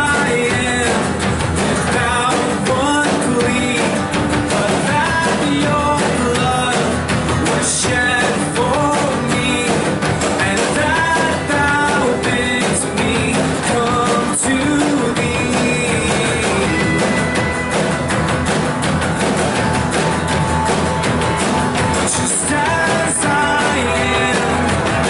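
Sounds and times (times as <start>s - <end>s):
person singing: 0.0s - 18.4s, 19.2s - 25.0s
drums: 0.0s - 25.0s
electric guitar: 0.0s - 25.0s.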